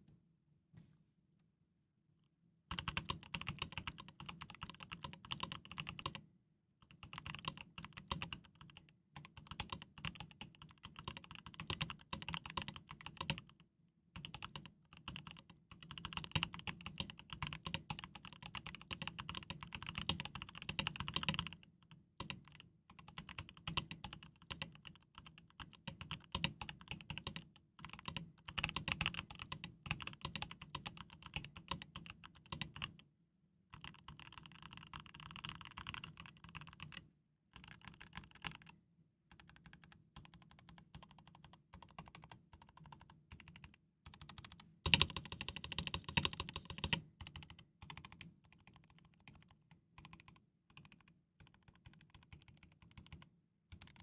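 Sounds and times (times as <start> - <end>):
mechanical keyboard typing: 2.7 - 6.2, 6.9 - 13.5, 14.2 - 21.6, 22.2 - 33.0, 33.8 - 37.0, 37.6 - 54.0.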